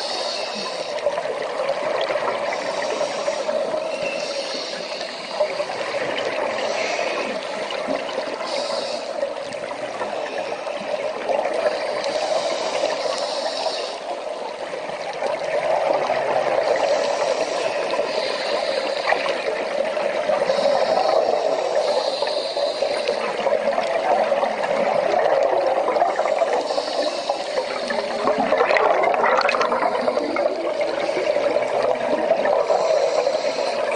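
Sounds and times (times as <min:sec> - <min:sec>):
underwater bubbling rush: 0:00.0 - 0:33.9.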